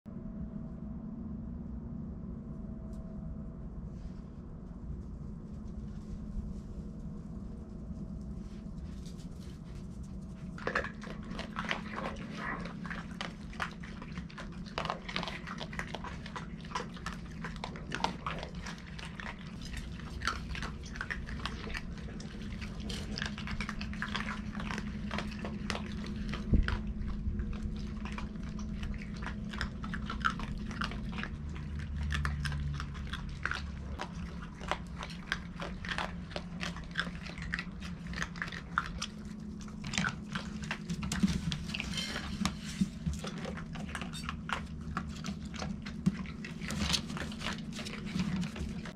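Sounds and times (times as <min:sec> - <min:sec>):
low hum: 0:00.0 - 0:48.9
animals crunching dry kibble: 0:04.7 - 0:48.9.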